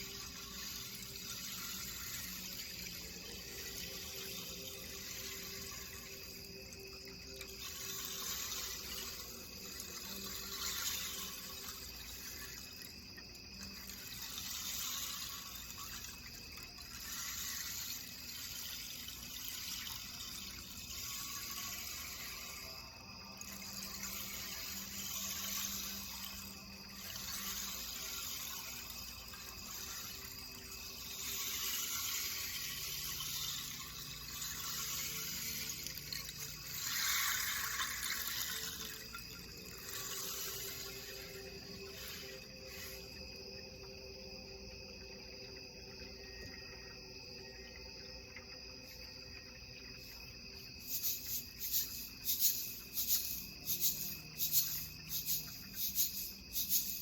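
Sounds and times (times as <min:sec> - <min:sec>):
rushing water-like hiss: 0:00.0 - 0:44.5, 0:48.8 - 0:57.0.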